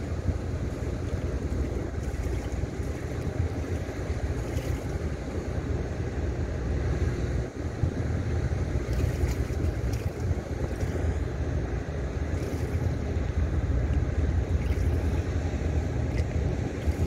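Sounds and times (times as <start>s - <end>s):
water lapping against quay: 0.0s - 17.0s
wind buffeting microphone: 0.0s - 17.0s.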